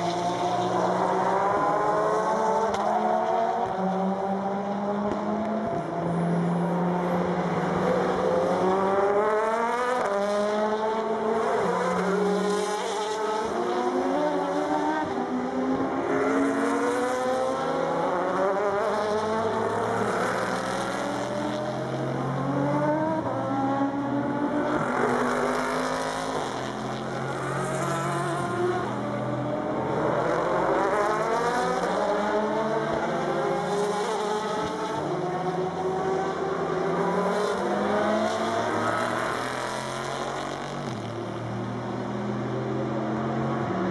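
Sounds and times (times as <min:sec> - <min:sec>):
race car engines accelerating: 0:00.0 - 0:43.9.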